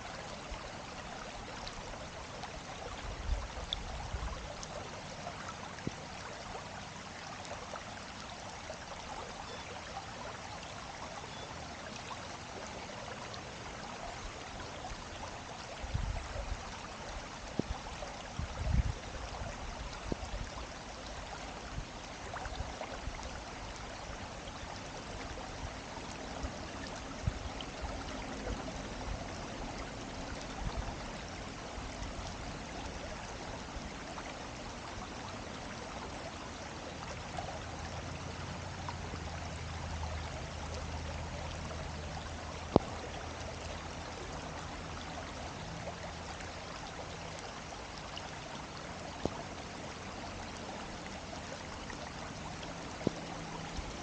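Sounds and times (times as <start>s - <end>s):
water rushing in a stream: 0.0s - 54.0s.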